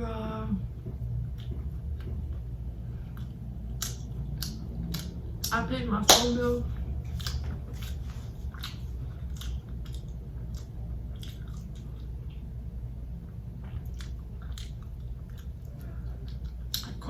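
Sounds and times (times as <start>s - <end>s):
steady low hum: 0.0s - 17.0s
person chewing crunchy food: 0.9s - 5.3s, 7.0s - 12.6s, 13.2s - 17.0s.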